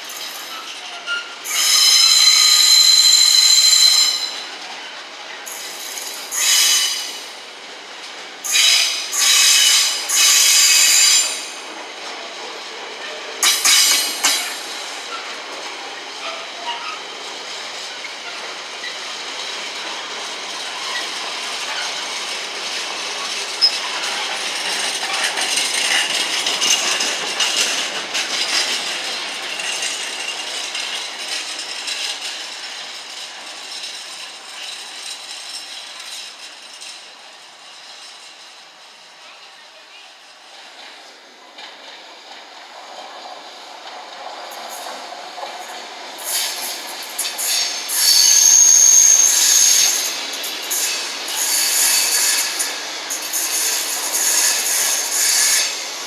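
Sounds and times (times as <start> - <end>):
train wheels squealing: 0.0 - 4.6, 5.3 - 7.3, 8.4 - 11.6, 13.0 - 40.7, 44.4 - 56.0
train running with wheel clatter: 0.0 - 56.0.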